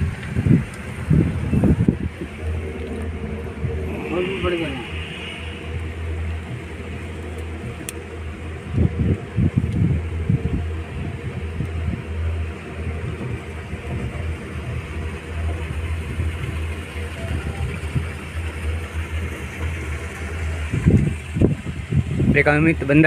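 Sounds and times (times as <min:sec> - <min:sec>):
cable car humming and rumbling: 0:00.0 - 0:23.0
low bumps: 0:00.0 - 0:23.0.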